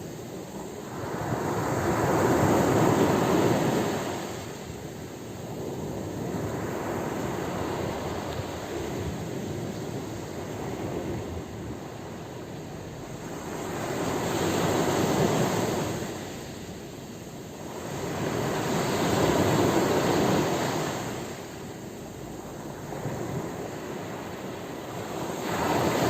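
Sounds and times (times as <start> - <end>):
sea waves washing in: 0.0 - 26.0.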